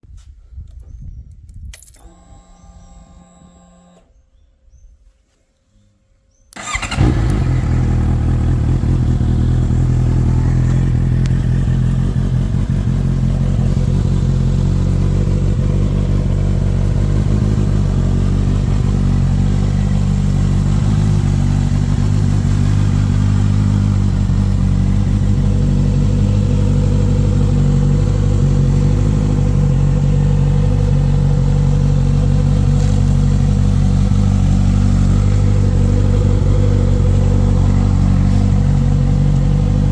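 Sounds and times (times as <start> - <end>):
motorcycle engine starting and idling: 1.8 - 4.2, 6.5 - 39.9.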